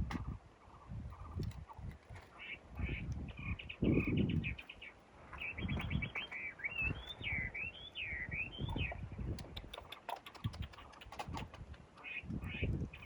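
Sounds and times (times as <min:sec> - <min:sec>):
songbird chirping and singing: 0:00.1 - 0:13.0.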